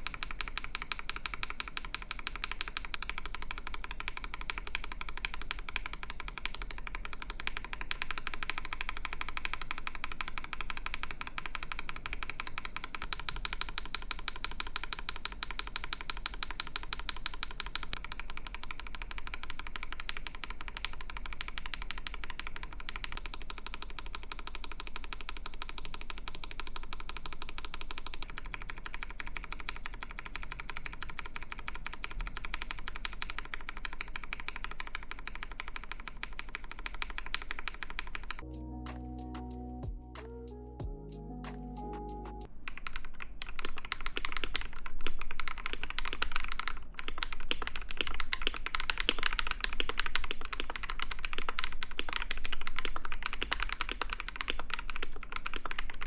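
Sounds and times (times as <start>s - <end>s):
fast mechanical keyboard typing: 0.0s - 38.5s, 42.6s - 56.0s.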